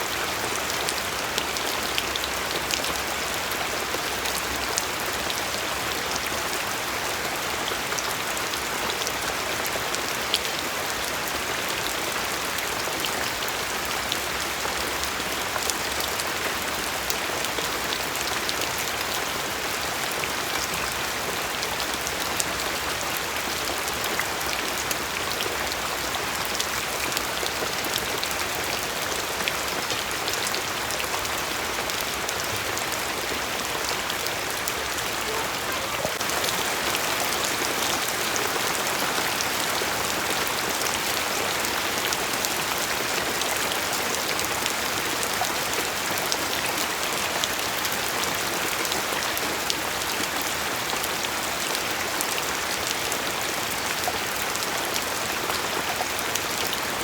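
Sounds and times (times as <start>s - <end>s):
rain falling: 0.0s - 57.0s
raindrops pattering: 0.0s - 57.0s.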